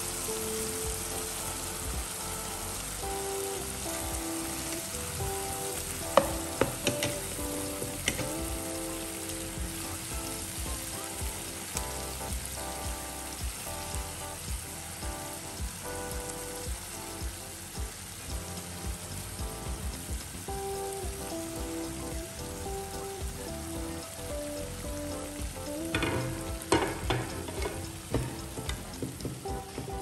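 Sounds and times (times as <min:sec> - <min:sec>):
food sizzling in frying pan: 0:00.0 - 0:30.0
instrumental background music: 0:00.0 - 0:30.0.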